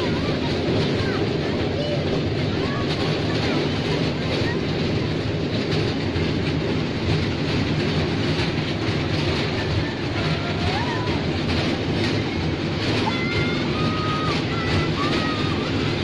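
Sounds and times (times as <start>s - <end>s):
ride train rumbling and rattling: 0.0s - 16.0s.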